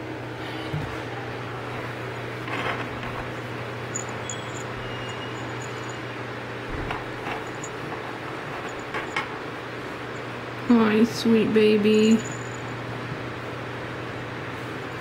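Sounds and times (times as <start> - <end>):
room hum and hiss: 0.0 - 15.0.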